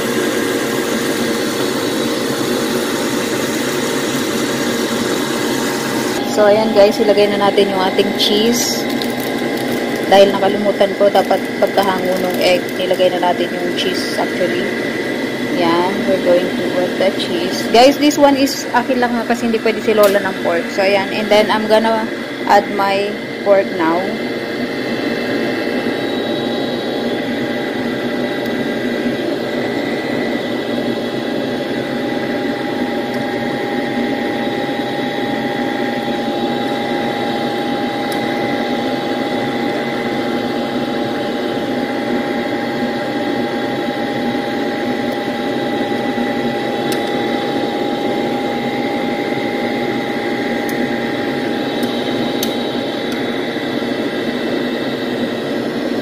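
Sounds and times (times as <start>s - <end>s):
fan motor humming with whine: 0.0s - 56.0s.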